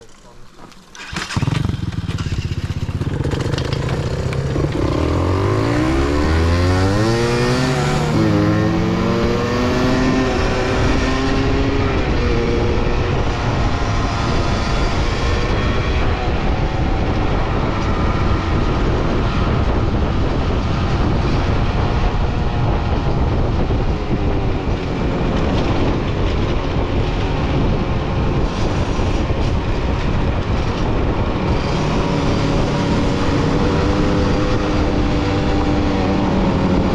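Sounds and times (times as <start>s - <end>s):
vehicle engine accelerating: 1.0s - 36.9s.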